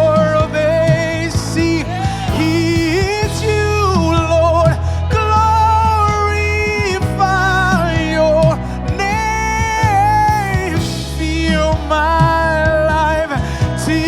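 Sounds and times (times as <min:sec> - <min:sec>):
band with steady bass: 0:00.0 - 0:14.0
person singing with vibrato: 0:00.0 - 0:14.0.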